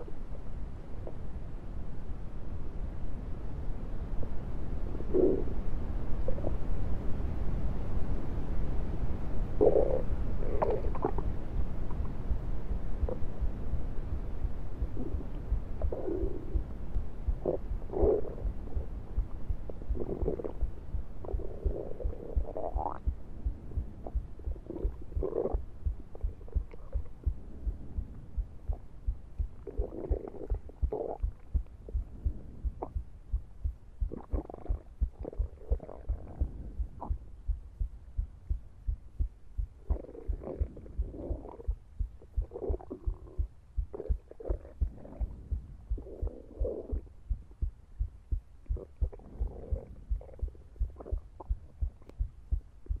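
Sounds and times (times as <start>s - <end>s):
muffled mid-range rumbles: 9.4s - 53.0s
repeating low pulse: 9.5s - 53.0s.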